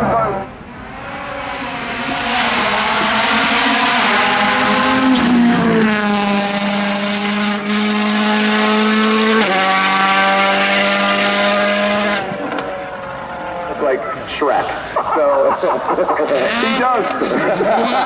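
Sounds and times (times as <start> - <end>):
car engine at high revs: 0.0 - 18.0.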